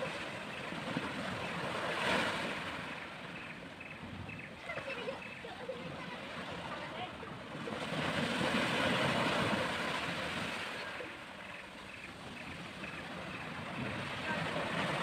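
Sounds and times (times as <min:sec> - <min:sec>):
sea waves washing on sand beach: 0:00.0 - 0:15.0.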